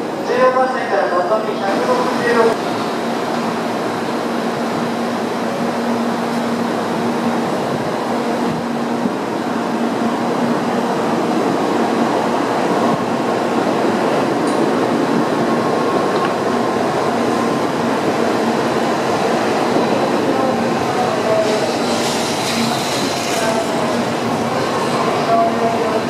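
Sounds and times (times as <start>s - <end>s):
train wheels rumbling: 1.6s - 26.0s.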